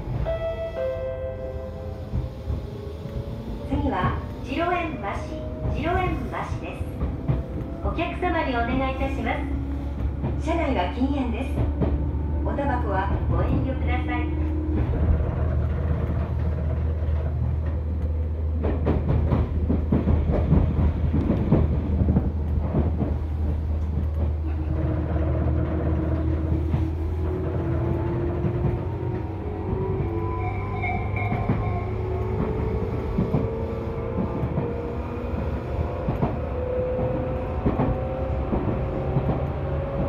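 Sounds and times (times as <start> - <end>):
train wheels clattering over rail joints: 5.4 - 40.0.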